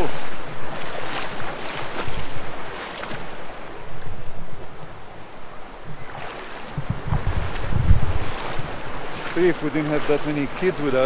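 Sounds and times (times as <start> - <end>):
water splashing: 0.0 - 4.8, 5.8 - 11.0
river water rushing: 0.0 - 11.0
wind buffeting microphone: 0.0 - 11.0.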